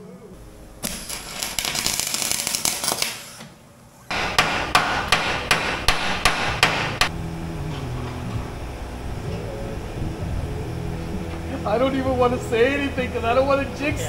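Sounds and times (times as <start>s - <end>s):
arc welder crackling: 0.4s - 13.9s.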